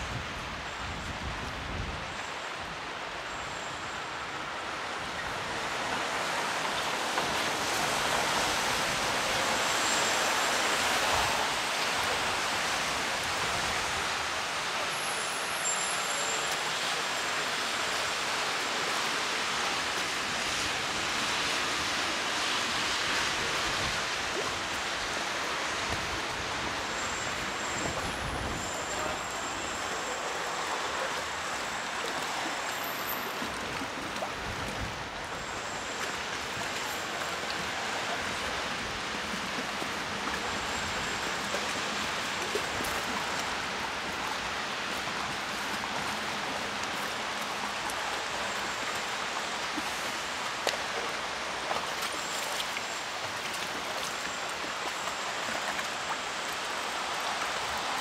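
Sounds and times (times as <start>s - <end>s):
heavy rain hissing: 0.0s - 33.8s, 34.4s - 58.0s
traffic on wet roads: 0.0s - 58.0s.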